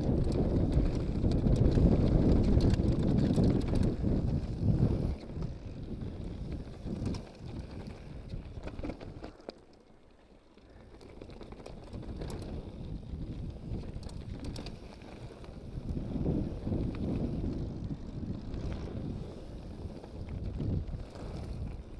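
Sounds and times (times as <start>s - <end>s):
wind buffeting microphone: 0.0s - 9.2s, 10.8s - 21.9s
bike rattling: 0.0s - 21.9s.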